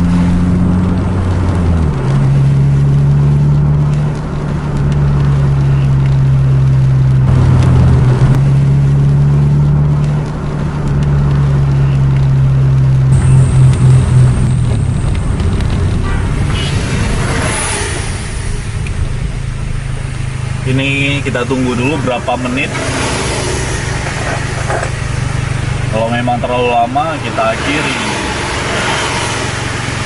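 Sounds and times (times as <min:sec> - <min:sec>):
car engine humming: 0:00.0 - 0:30.0
tyre noise on wet road: 0:00.0 - 0:30.0.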